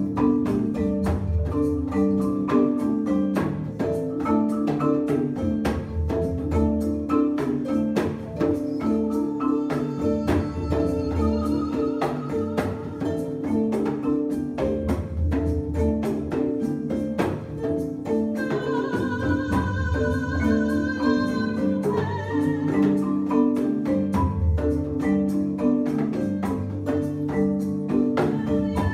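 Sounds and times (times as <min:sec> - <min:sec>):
hand drum tapping: 0:00.0 - 0:28.9
marimba rolling pattern: 0:00.0 - 0:28.9.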